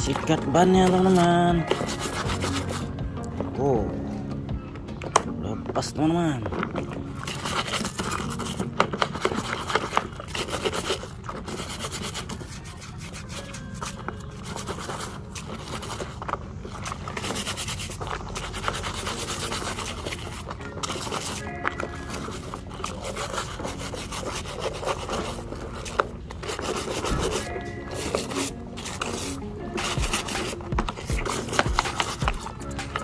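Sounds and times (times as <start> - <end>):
brush scrubbing rubber tyres: 0.0 - 3.0, 6.0 - 33.0.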